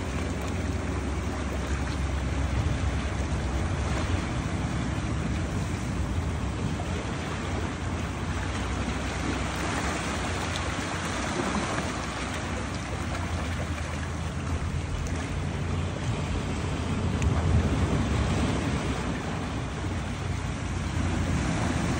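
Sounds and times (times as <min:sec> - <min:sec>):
sea waves lapping over rocks: 0:00.0 - 0:21.9
wind rumble on microphone: 0:00.0 - 0:21.9.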